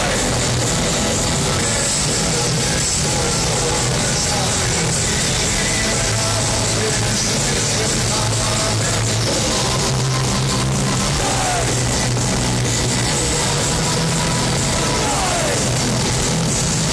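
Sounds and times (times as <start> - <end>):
electric guitars: 0.0 - 16.9
heavy metal band playing live: 0.0 - 16.9.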